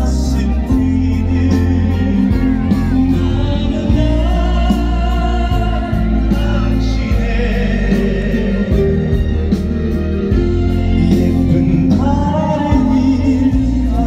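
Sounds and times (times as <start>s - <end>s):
live band with singing: 0.0s - 14.0s.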